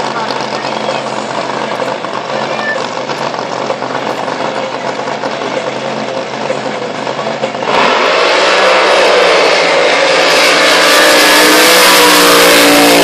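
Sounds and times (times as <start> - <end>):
boat accelerating at full throttle: 0.0 - 13.0
drag boat engines rumbling: 0.0 - 13.0.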